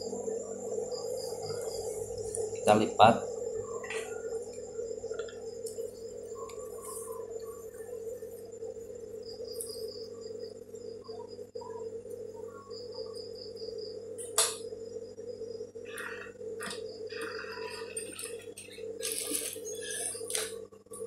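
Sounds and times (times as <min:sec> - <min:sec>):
cricket chirping: 0:00.0 - 0:21.0
steady low hum: 0:00.0 - 0:21.0.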